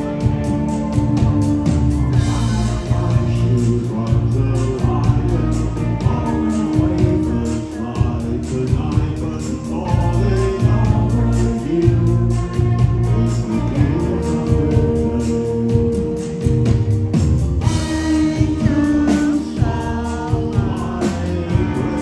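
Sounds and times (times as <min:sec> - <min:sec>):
live rock band: 0:00.0 - 0:22.0
man singing: 0:02.1 - 0:16.9, 0:17.6 - 0:22.0.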